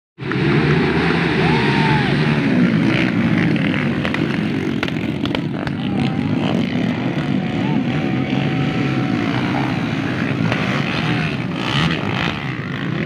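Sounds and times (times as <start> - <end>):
dirt bike engines racing past: 0.2 - 13.0.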